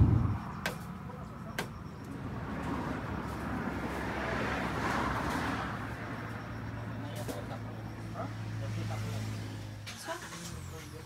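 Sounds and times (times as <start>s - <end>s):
road traffic noise: 0.0s - 11.0s
vehicle passing: 0.0s - 11.0s.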